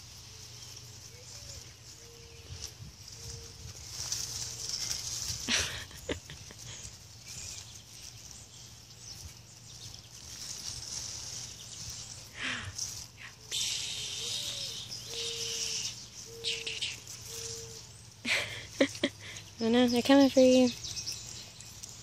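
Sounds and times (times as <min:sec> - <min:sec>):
leaves rustling: 0:00.0 - 0:22.0.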